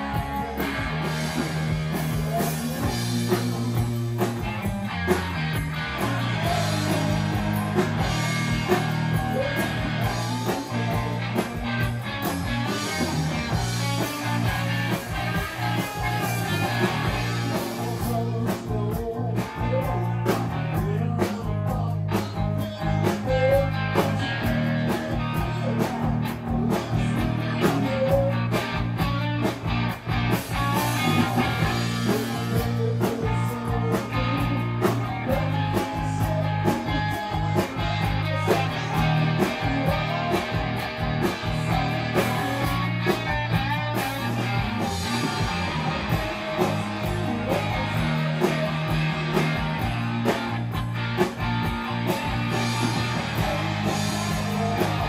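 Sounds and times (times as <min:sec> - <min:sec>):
drum kit with cymbal hits: 0:00.0 - 0:55.0
electric bass: 0:00.0 - 0:55.0.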